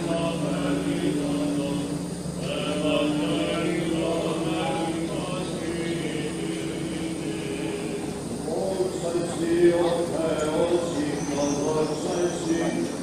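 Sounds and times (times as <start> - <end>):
low vocal drone: 0.0 - 13.0
male voices chanting: 0.0 - 13.0.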